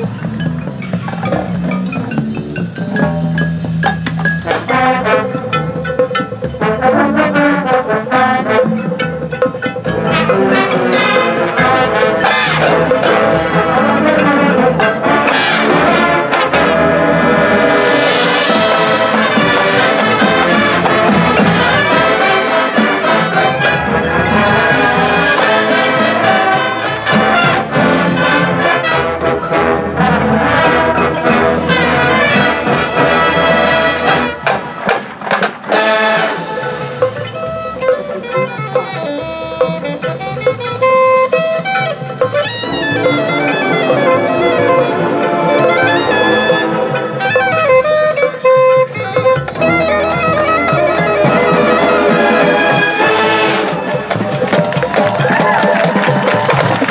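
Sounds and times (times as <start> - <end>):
marching band brass: 0.0 - 56.9.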